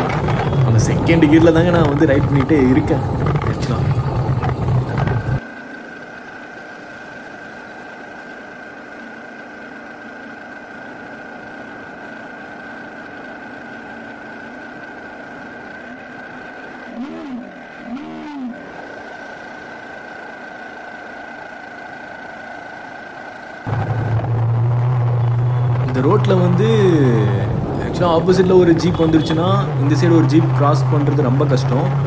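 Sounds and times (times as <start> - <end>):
motorcycle engine pulling uphill: 0.0 - 32.0.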